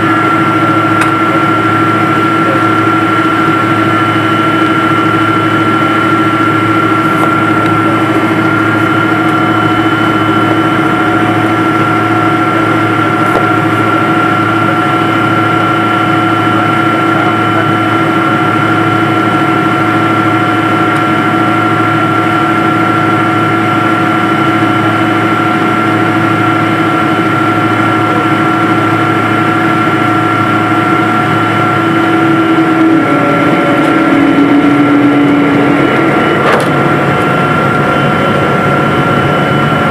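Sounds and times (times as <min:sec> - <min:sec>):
jet engines in cabin: 0:00.0 - 0:39.9.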